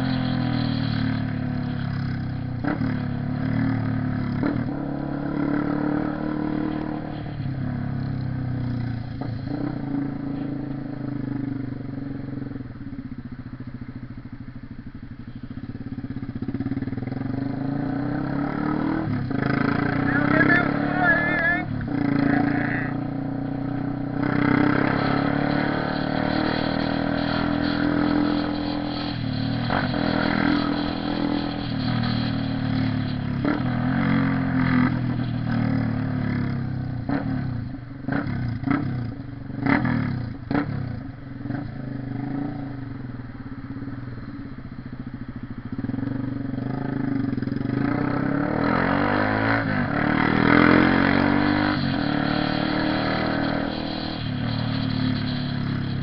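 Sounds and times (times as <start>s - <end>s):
motorcycle engine running: 0.0s - 7.0s, 7.6s - 48.4s, 49.8s - 56.0s.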